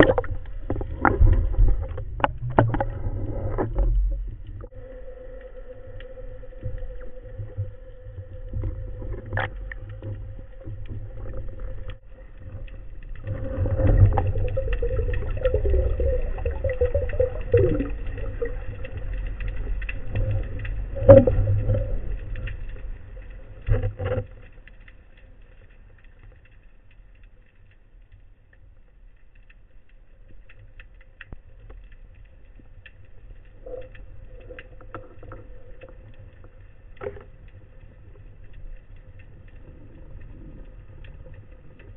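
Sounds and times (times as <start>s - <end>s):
underwater water rumble: 0.0s - 41.9s.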